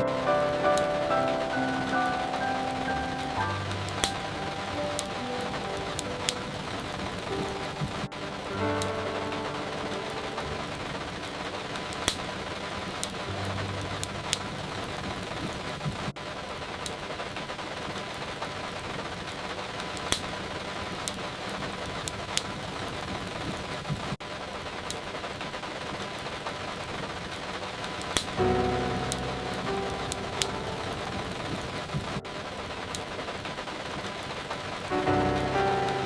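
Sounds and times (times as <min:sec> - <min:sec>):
fireplace crackling and popping: 0:00.0 - 0:36.0
steady rain hiss: 0:00.0 - 0:36.0.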